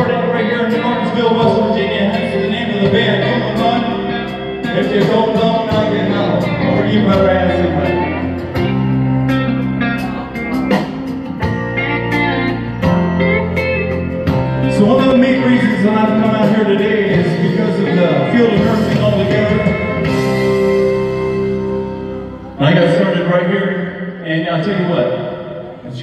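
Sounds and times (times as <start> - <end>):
country music with guitar and bass: 0.0 - 26.0.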